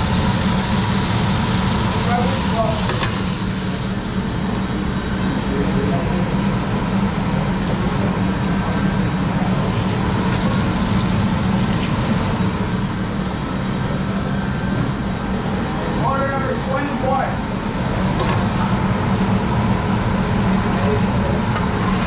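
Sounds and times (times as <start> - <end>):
kitchen equipment hum: 0.0 - 22.0.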